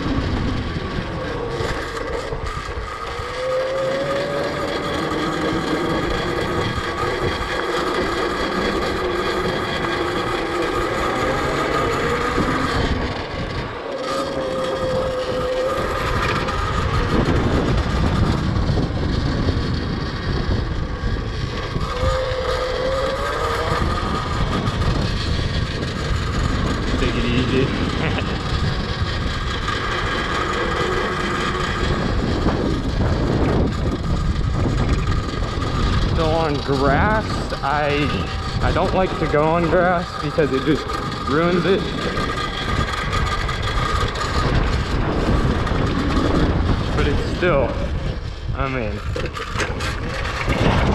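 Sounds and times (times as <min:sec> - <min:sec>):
electric motor and chain whining: 0:00.0 - 0:50.9
tyre and wind rumble: 0:00.0 - 0:50.9.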